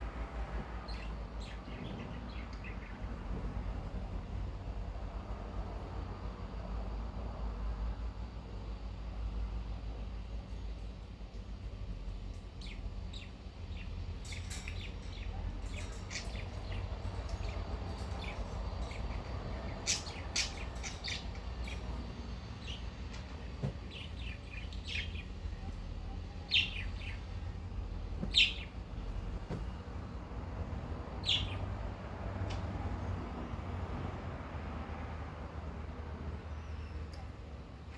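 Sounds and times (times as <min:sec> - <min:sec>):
electric fan humming: 0:00.0 - 0:36.5.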